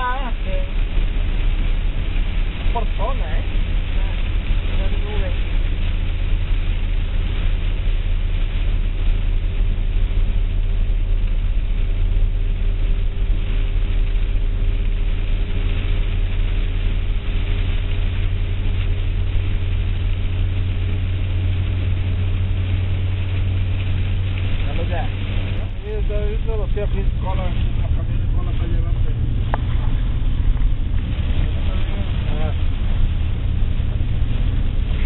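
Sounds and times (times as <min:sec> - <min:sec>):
car engine and road rumble: 0:00.0 - 0:35.0.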